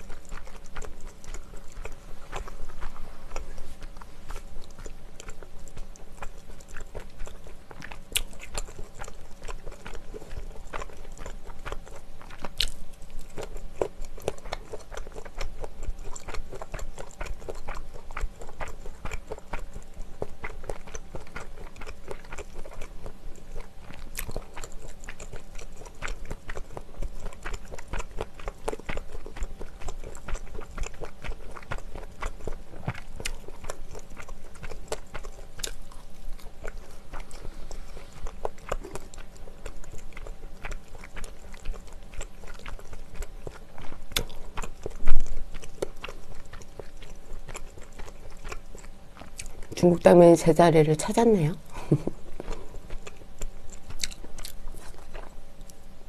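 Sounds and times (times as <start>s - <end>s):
close chewing and biting: 0.0s - 56.0s.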